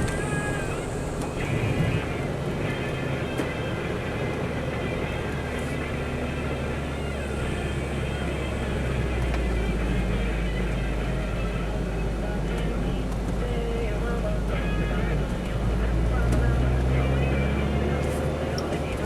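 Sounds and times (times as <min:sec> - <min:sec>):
car engine and road drone: 0:00.0 - 0:19.0
faint car radio: 0:00.0 - 0:19.0.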